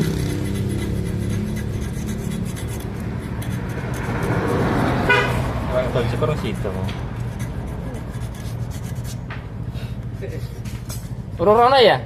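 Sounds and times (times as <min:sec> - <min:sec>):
sandpaper rasping on metal part: 0:00.0 - 0:09.3, 0:10.0 - 0:11.8.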